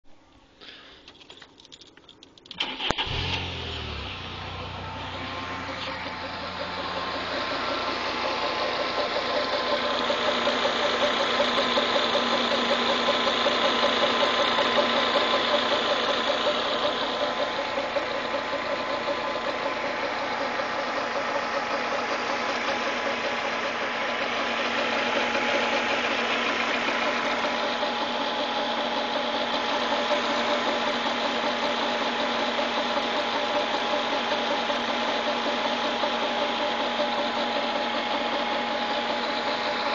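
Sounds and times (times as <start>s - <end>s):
car engine with knocking: 4.2s - 39.9s.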